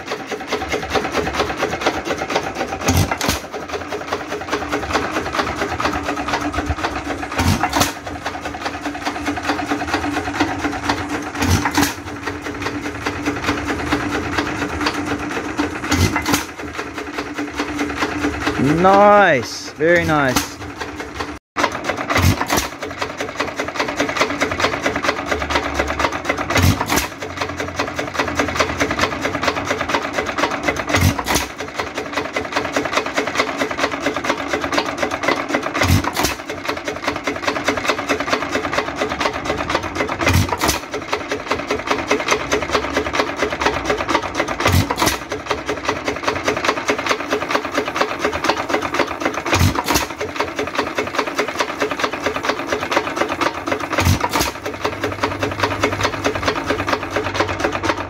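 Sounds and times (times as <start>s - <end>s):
engine firing stroke: 0.0s - 58.0s
engine running gear clatter: 0.0s - 58.0s.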